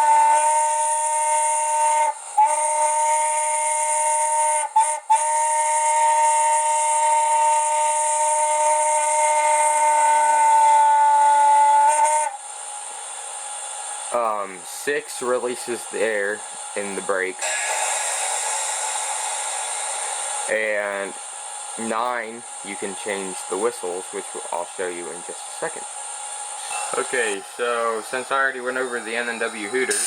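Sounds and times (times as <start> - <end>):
steam whistle blasts: 0.0 - 12.5, 15.2 - 30.0
steam hiss: 0.0 - 30.0.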